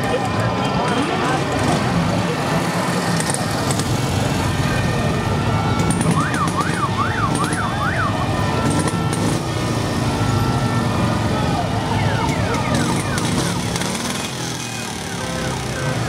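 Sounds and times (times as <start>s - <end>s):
siren wailing: 0.0s - 16.0s
motorcycles riding past: 0.1s - 16.0s.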